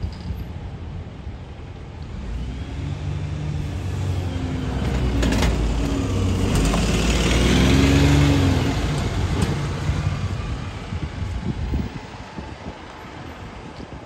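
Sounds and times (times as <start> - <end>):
bus engine accelerating: 2.0 - 13.4.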